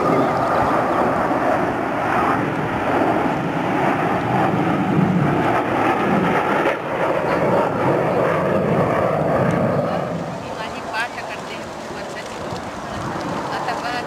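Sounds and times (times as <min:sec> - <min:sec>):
jet engines passing: 0:00.0 - 0:14.0.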